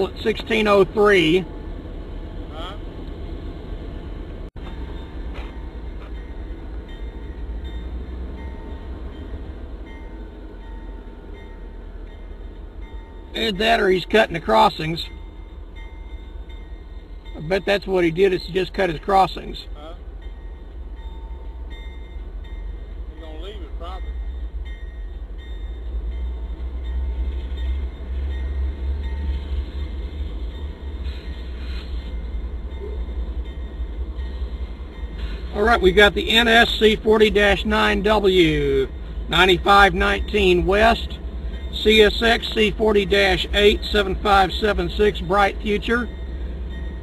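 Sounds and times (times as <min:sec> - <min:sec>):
distant diesel train rumbling: 0:00.0 - 0:47.0.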